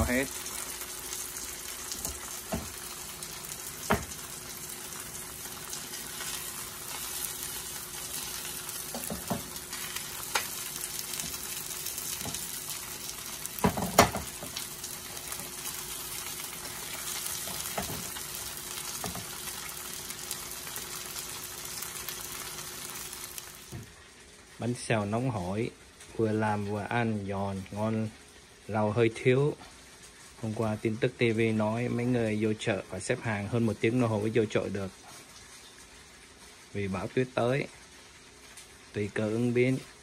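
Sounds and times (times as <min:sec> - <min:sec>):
crepes sizzling in oil: 0:00.0 - 0:24.7, 0:27.5 - 0:40.0.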